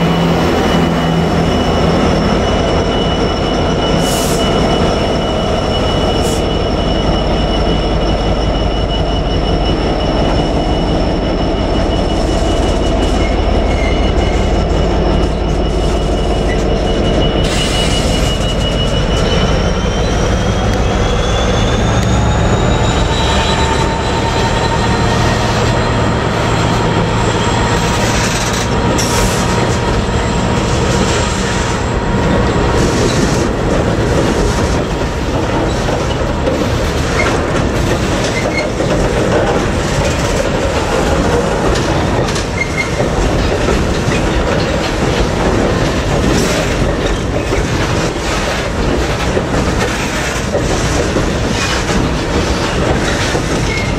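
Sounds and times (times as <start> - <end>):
train clanks: 0.0 - 53.9
train wheels squealing: 0.0 - 53.9.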